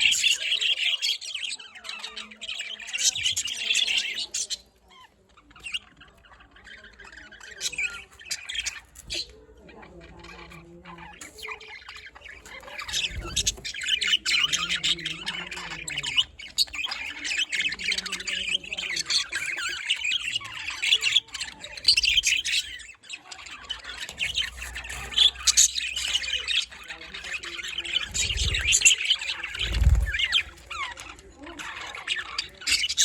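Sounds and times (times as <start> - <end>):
birds chattering and squawking: 0.0 - 33.0.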